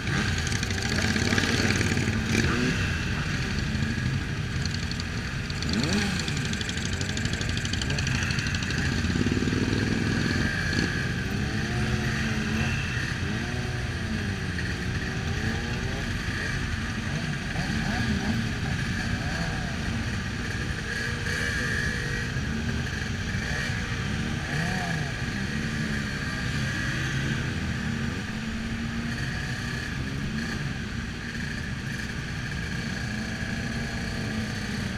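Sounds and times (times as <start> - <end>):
motorcycle engines rumbling: 0.0 - 34.9.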